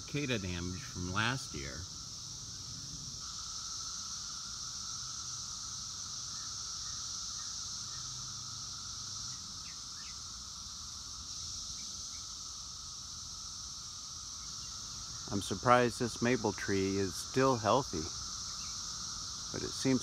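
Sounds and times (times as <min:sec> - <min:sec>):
cicadas droning: 0:00.0 - 0:20.0.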